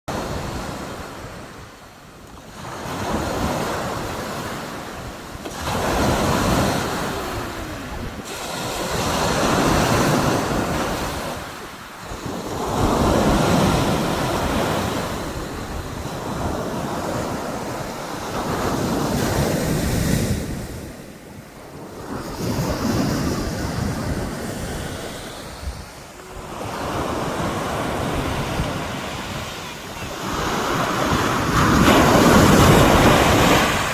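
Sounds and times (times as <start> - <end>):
waves breaking: 0.1 - 33.9
wind buffeting microphone: 2.9 - 33.9.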